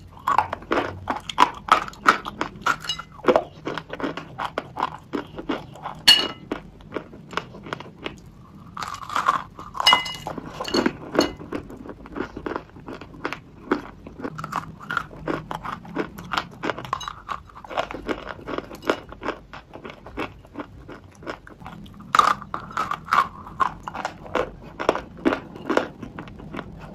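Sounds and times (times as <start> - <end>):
dry clay crunching when chewed: 0.0 - 26.9.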